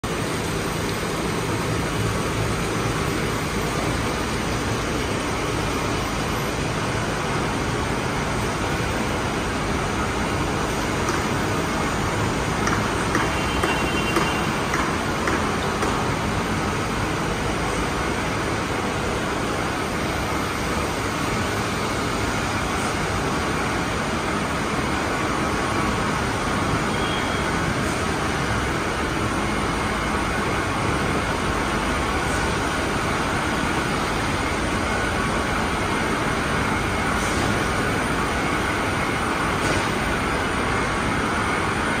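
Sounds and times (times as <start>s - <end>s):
industrial machinery noise: 0.0s - 42.0s.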